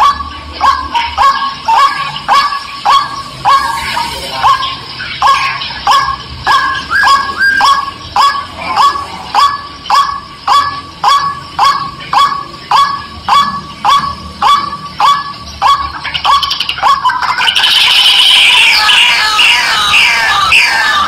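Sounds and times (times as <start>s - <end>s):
bird short upswept calls: 0.1s - 19.0s.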